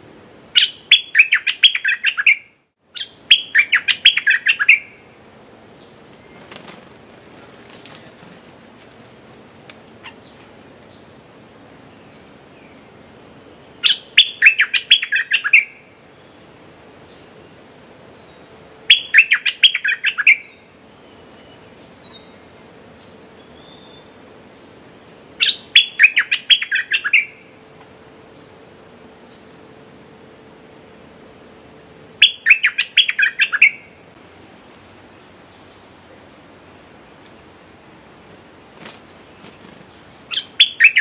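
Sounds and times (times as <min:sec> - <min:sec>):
faint soft bird calls: 0:00.0 - 0:37.7, 0:38.3 - 0:41.0.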